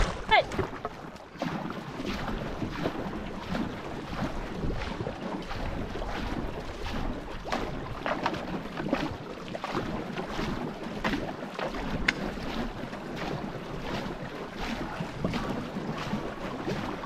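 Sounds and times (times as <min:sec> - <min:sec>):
paddles splashing through water: 0:00.0 - 0:17.0.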